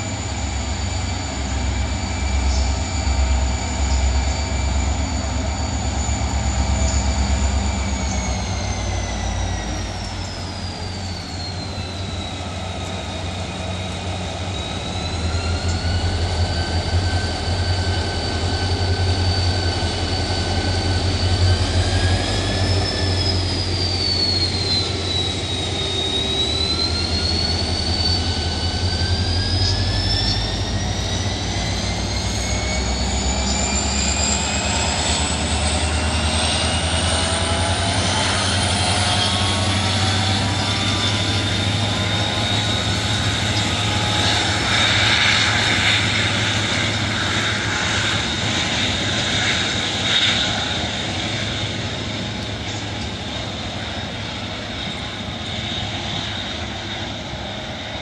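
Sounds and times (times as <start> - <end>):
diesel locomotive engine rumble: 0.0 - 58.0
locomotive high whine: 0.0 - 58.0.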